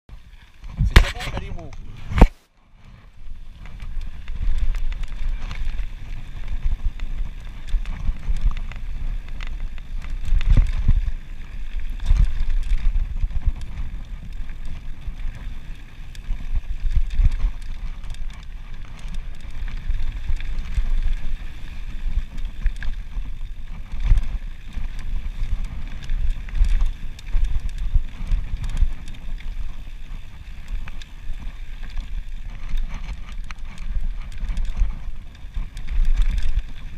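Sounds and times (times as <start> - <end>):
bike rattling over bumps: 0.1 - 36.9
wind rumble on microphone: 0.1 - 36.9
tyres rolling over gravel: 2.9 - 36.9.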